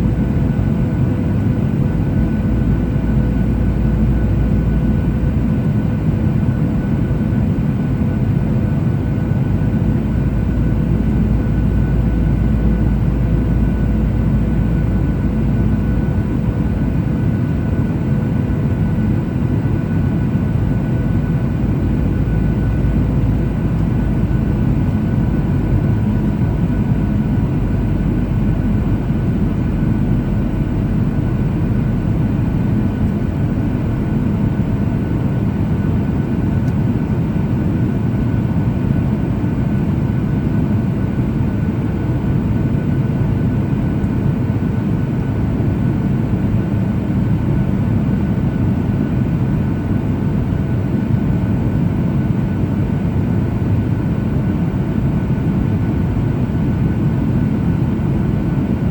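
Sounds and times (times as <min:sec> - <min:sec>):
airflow rush in plane cabin: 0:00.0 - 0:58.9
faint steady engine tones: 0:00.0 - 0:58.9.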